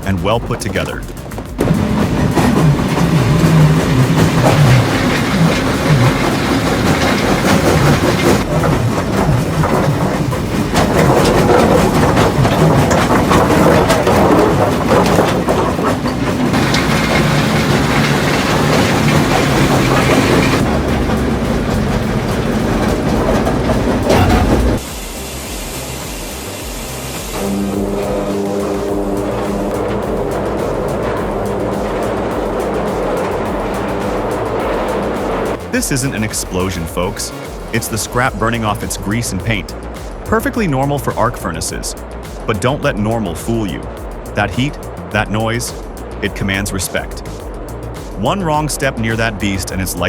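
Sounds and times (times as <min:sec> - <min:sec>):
heavy machinery clattering and grinding: 0:00.0 - 0:50.0.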